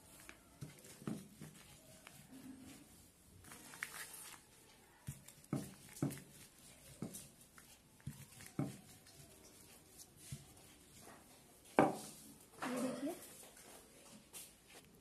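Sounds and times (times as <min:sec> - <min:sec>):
rolling pin rolling dough: 0:00.0 - 0:12.3.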